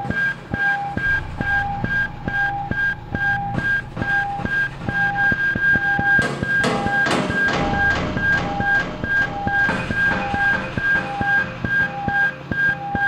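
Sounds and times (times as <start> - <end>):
low-fi electronic music: 0.8 - 13.0.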